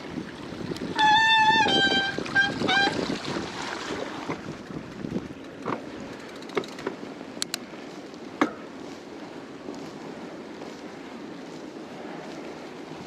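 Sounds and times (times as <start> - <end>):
tyre and wind rush: 0.0 - 13.0.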